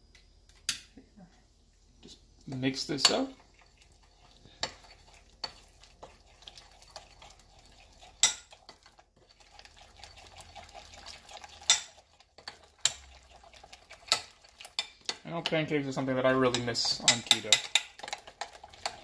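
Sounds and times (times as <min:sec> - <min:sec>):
fork stirring batter: 0:02.0 - 0:19.0.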